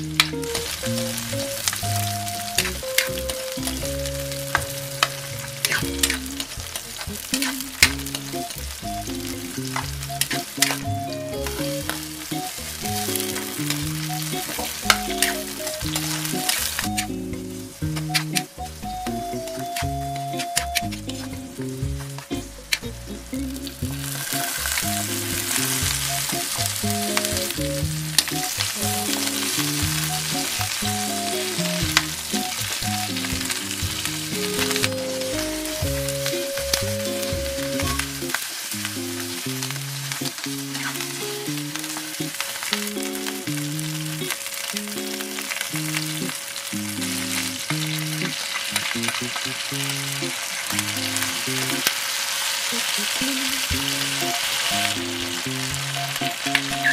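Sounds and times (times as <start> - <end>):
light background music: 0.0 - 51.9, 53.2 - 56.9
food sizzling in hot oil: 0.0 - 56.9.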